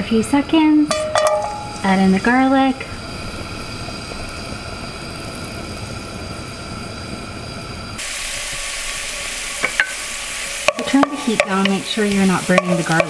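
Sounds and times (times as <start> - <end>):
garlic sizzling in a wok: 0.0 - 13.0.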